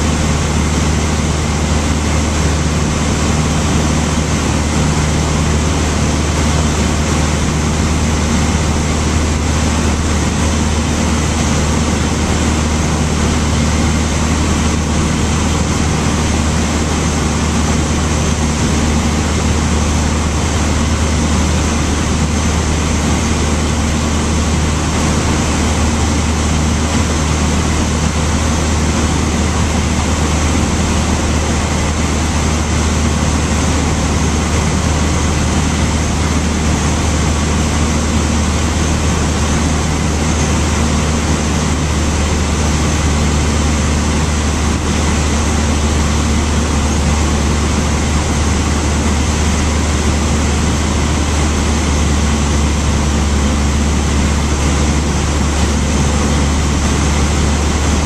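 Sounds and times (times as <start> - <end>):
light aircraft engine drone in cabin: 0.0 - 58.0.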